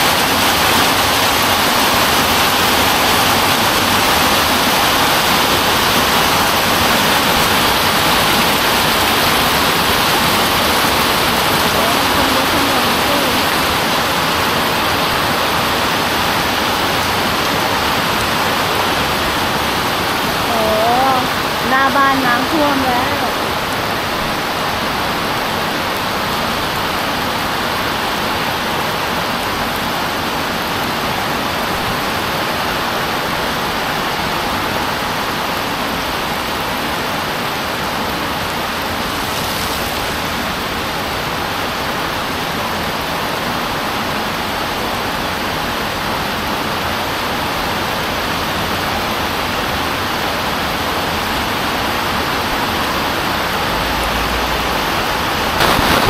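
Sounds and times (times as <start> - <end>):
heavy rain on road and plants: 0.0 - 56.0.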